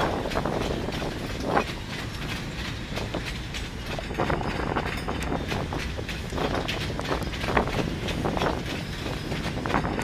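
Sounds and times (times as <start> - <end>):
freight train low rumble: 0.0 - 10.0
train wheels clicking over rail joints: 0.0 - 10.0.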